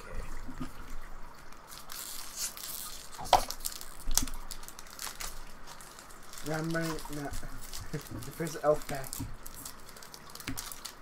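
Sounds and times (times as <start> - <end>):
foil wrapper crinkling: 1.3 - 11.0.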